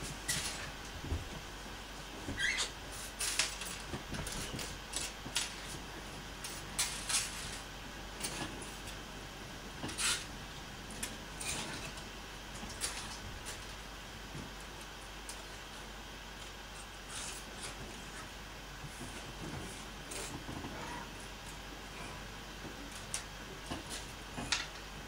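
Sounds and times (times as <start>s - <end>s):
low steady background noise: 0.0s - 25.0s.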